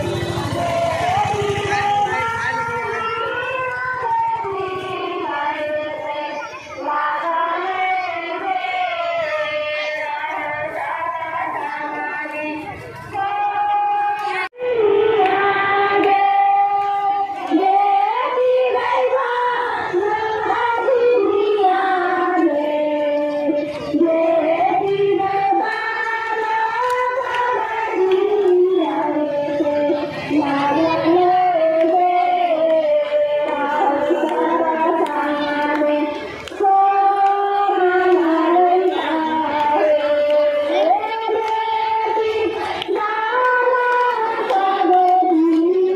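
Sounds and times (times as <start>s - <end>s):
faint crowd murmur: 0.0s - 45.9s
high-pitched person singing: 0.6s - 45.9s.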